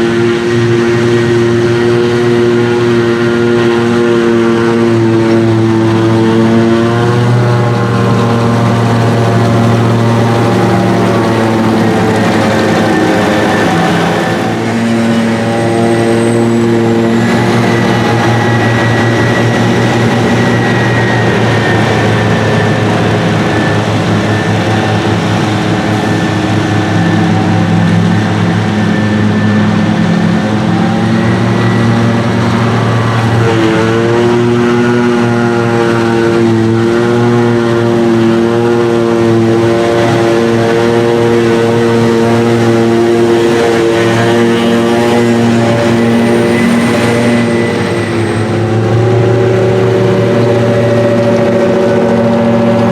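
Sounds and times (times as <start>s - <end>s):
heavy diesel machinery running: 0.0s - 52.9s.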